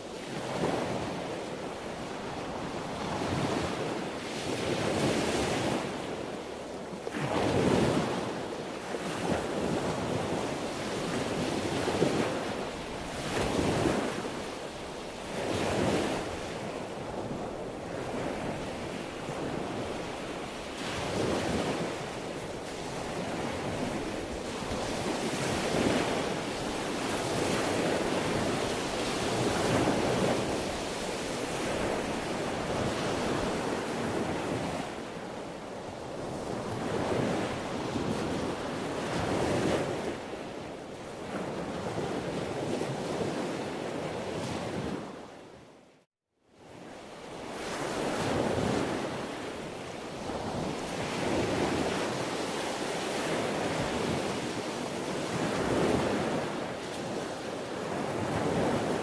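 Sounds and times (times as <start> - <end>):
sea waves breaking: 0.2 - 45.2, 47.4 - 59.0.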